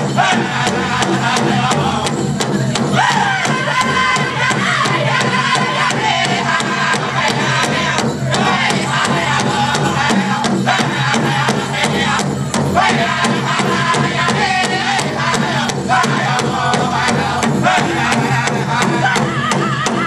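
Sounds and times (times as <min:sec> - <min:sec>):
fast steady drumbeat: 0:00.0 - 0:20.0
high-pitched unison chanting: 0:00.0 - 0:20.0.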